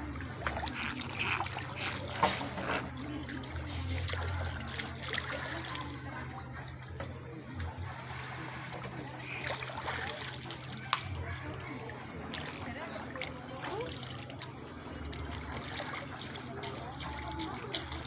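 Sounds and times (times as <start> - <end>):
stream water trickling over stones: 0.0 - 6.9, 8.8 - 18.0
small splashes: 0.0 - 18.0.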